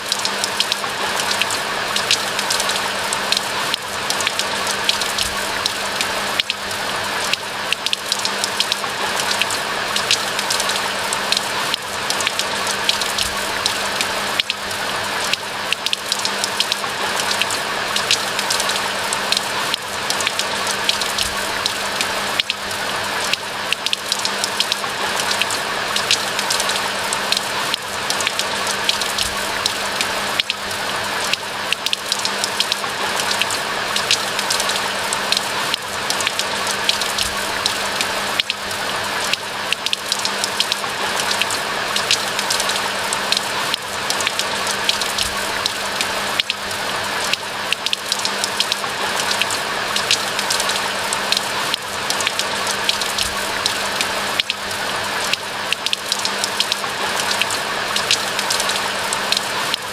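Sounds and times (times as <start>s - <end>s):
rain pattering in a forest: 0.0s - 59.9s.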